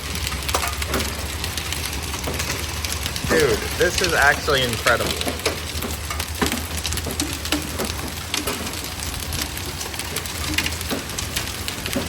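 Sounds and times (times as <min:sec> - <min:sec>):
hailstones cracking: 0:00.0 - 0:12.0
rain hissing: 0:00.0 - 0:12.0.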